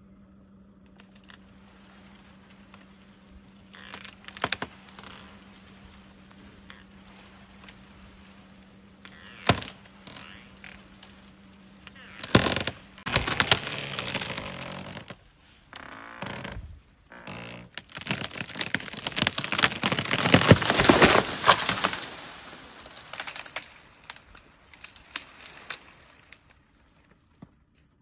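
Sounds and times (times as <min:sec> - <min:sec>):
tree wood creaking and cracking: 0:00.8 - 0:28.0
branches snapping and crackling: 0:01.0 - 0:27.9.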